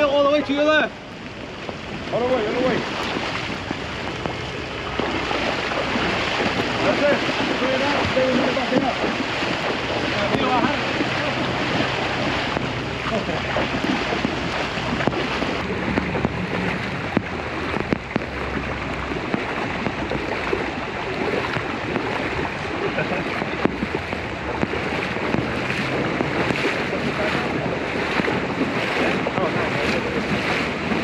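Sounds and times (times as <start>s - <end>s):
floodwater splashing: 0.0s - 31.0s.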